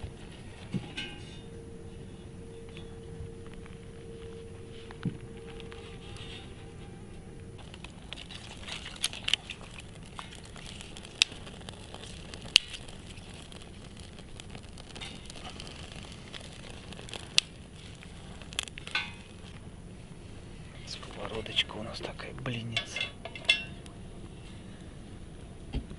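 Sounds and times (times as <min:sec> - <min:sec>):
burning wood popping: 0:00.0 - 0:25.9
wood fire crackling: 0:00.0 - 0:25.9.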